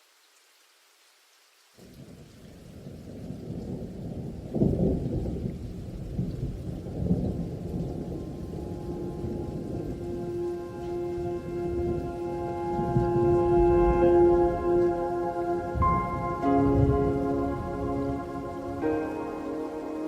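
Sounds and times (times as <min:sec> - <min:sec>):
thunder rumbling: 0:02.6 - 0:20.0.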